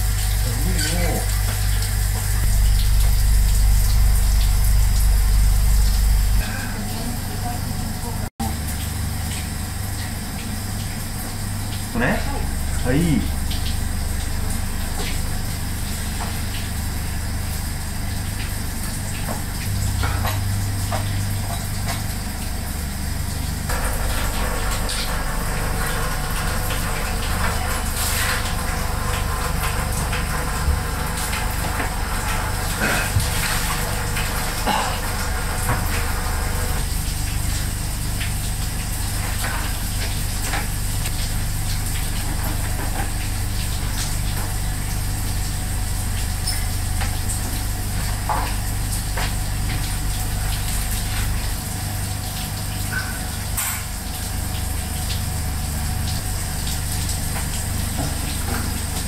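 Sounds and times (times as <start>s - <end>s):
low mechanical rumble: 0.0s - 59.0s.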